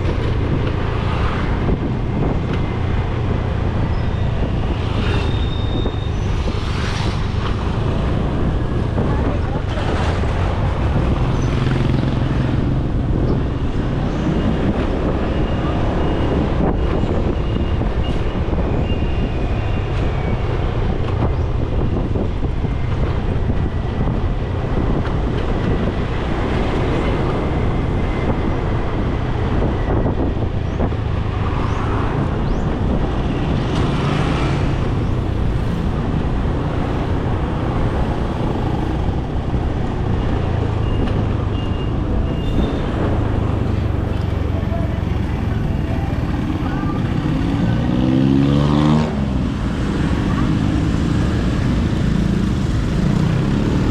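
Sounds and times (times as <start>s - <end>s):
road and wind noise: 0.0s - 53.9s
traffic: 0.0s - 53.9s.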